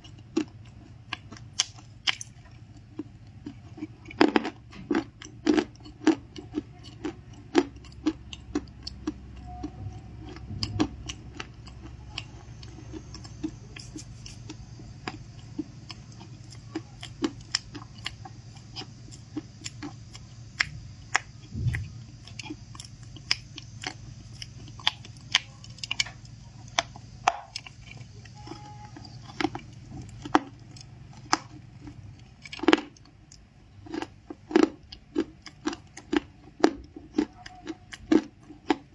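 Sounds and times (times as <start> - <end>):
chewing crunchy cookies: 0.0 - 38.9.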